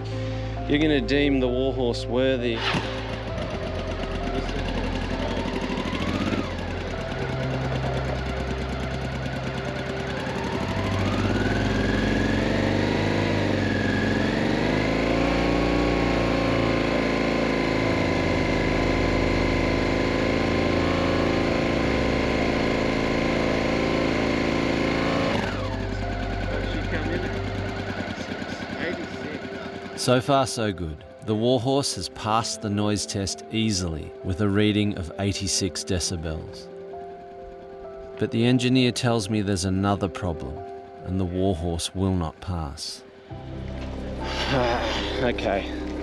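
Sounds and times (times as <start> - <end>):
motorcycle engine revving: 2.3 - 31.2, 35.9 - 42.4, 43.2 - 46.0.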